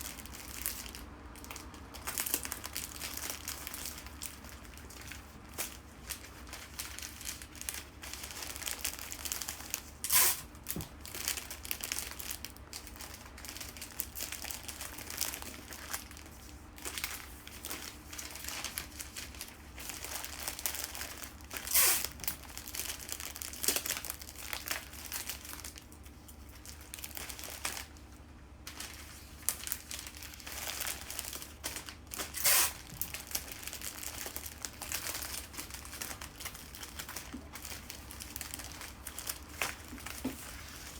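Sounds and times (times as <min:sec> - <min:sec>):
wrapping material crinkling: 0:00.0 - 0:40.9.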